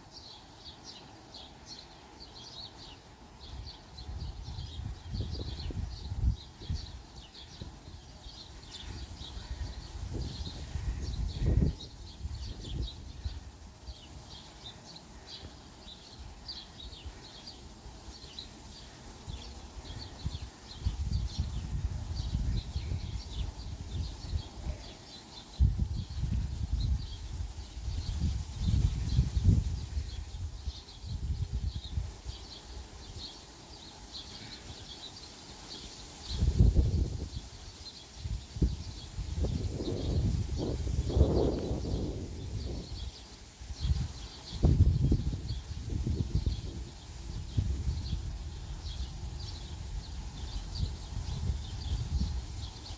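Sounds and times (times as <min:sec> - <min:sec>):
small birds chirping: 0:00.0 - 0:52.9
wind buffeting microphone: 0:03.4 - 0:14.7, 0:18.2 - 0:24.8, 0:25.4 - 0:33.4, 0:36.2 - 0:52.9.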